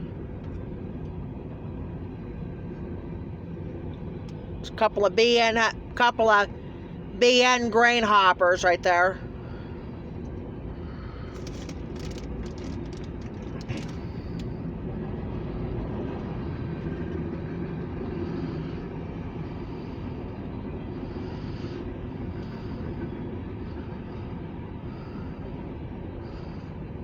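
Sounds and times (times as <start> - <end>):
freight cars rumbling on rails: 0.0 - 27.0.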